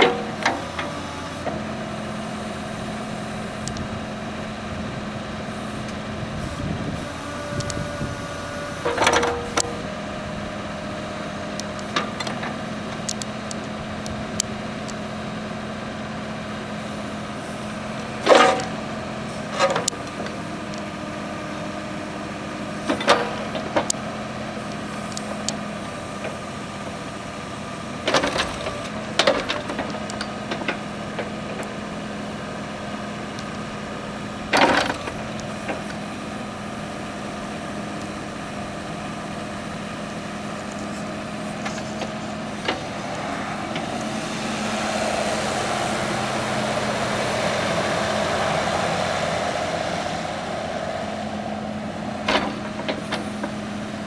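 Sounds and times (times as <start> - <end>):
diesel engine idling: 0.0 - 54.0
loud rough engine noise: 0.0 - 54.0.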